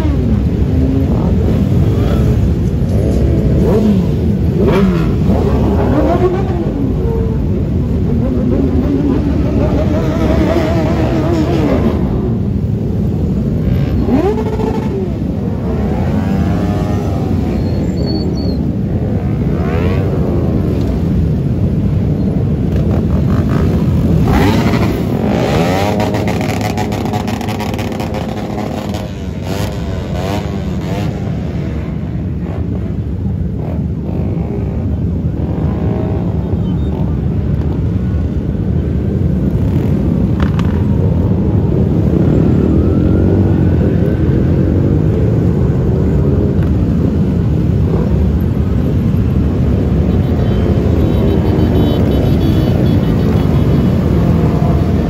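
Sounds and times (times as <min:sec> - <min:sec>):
motorcycle engines passing: 0:00.0 - 0:55.0.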